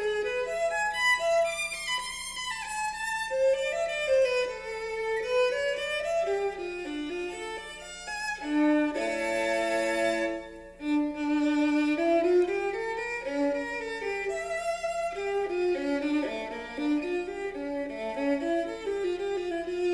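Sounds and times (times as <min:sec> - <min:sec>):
violin music over loudspeaker: 0:00.0 - 0:19.9.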